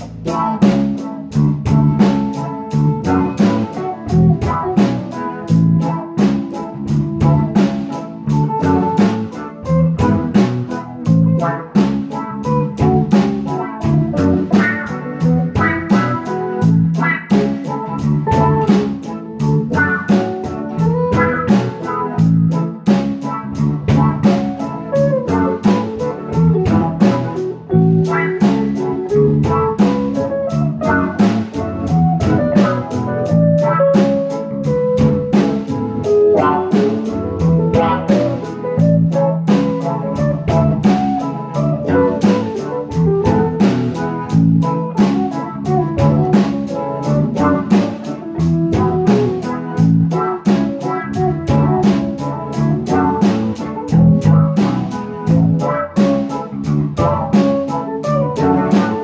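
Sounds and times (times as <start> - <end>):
music with steady beat: 0.0 - 59.0.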